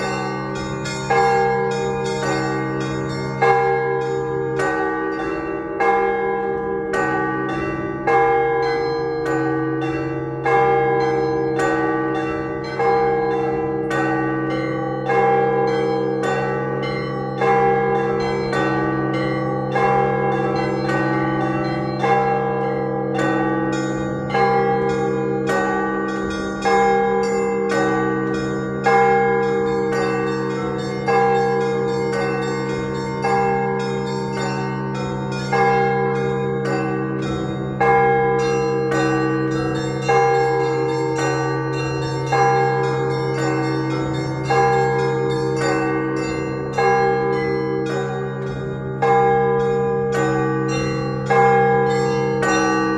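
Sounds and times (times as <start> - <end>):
church bells ringing: 0.0 - 52.9.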